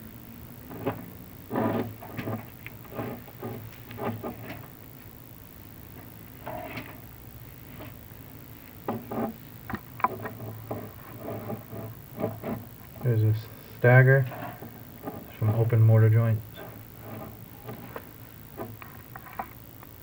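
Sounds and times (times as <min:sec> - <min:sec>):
low steady hum: 0:00.0 - 0:20.0
camera cable scraping and knocking in flue: 0:00.7 - 0:04.8, 0:06.0 - 0:07.0, 0:08.8 - 0:20.0.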